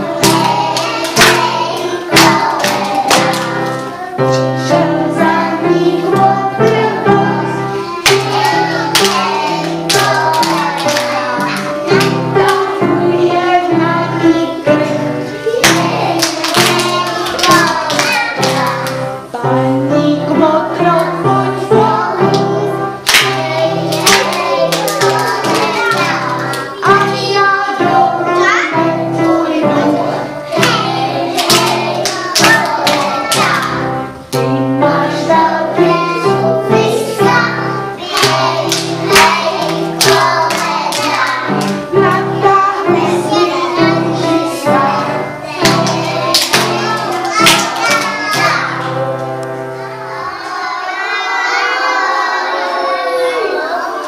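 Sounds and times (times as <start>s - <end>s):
children singing: 0.0s - 54.0s
children's song backing track: 0.0s - 54.0s.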